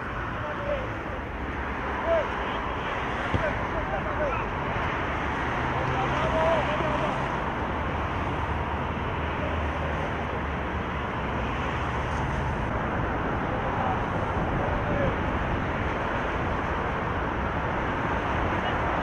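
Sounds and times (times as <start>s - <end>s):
outdoor rushing background noise: 0.0s - 19.0s.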